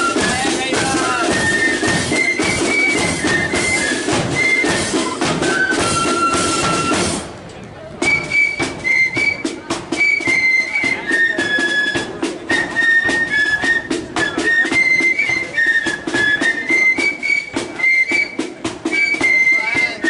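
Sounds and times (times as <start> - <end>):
flutes playing a melody: 0.0 - 7.3, 8.0 - 20.0
marching drums: 0.0 - 20.0.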